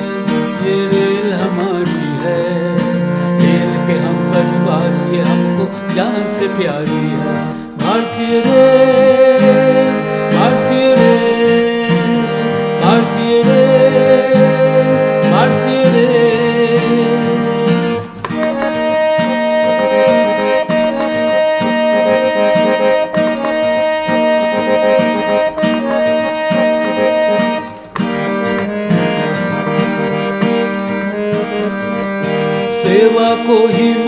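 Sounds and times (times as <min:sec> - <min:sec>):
held notes and steady accompaniment: 0:00.0 - 0:34.0
plucked string melody with slides: 0:00.0 - 0:34.0.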